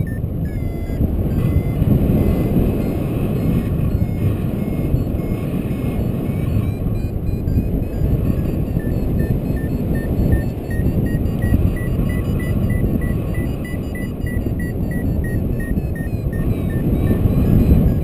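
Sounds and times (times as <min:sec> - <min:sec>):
variometer beeping: 0:00.0 - 0:18.0
wind buffeting microphone: 0:00.0 - 0:18.0.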